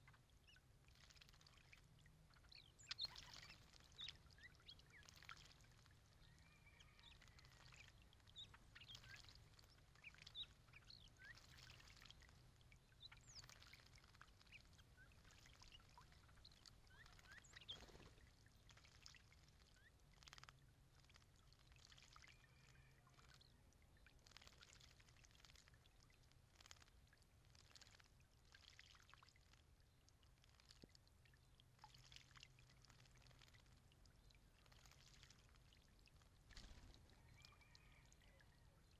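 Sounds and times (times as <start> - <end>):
birds splashing and fluttering: 0.0 - 38.9.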